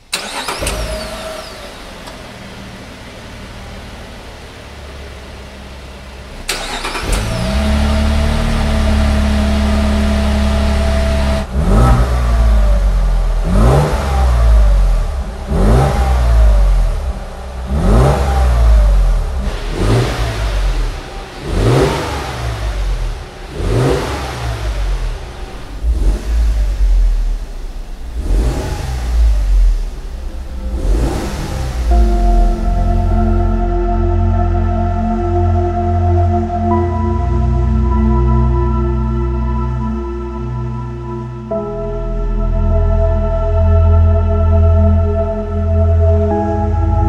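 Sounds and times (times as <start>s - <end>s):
engine revving: 0.0s - 38.1s
car engine starting and idling: 0.0s - 47.0s.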